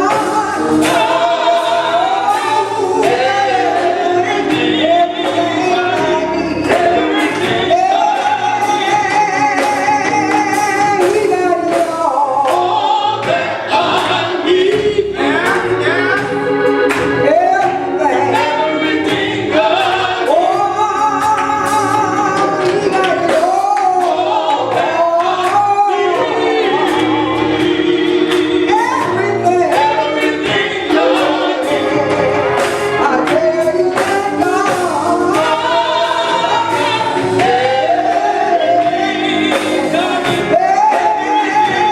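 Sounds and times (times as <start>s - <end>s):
choir singing gospel with band: 0.0s - 41.9s.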